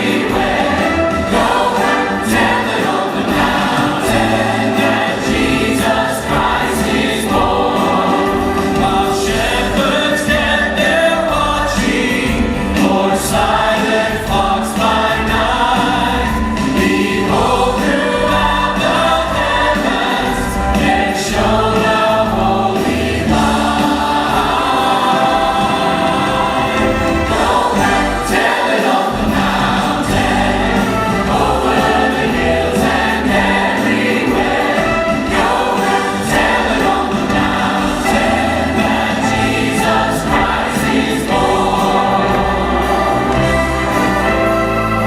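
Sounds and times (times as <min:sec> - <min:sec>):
church choir singing: 0:00.0 - 0:45.0
instrumental accompaniment: 0:00.0 - 0:45.0.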